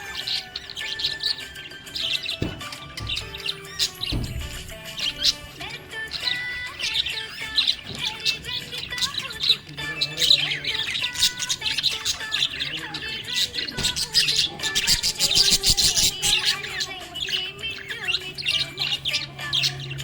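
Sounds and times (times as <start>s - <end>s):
budgerigar chirping: 0.0s - 20.0s.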